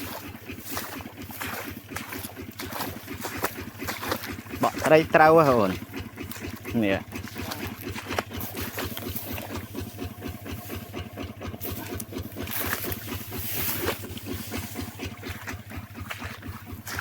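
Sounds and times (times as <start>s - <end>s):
small engine chugging: 0.0s - 17.0s.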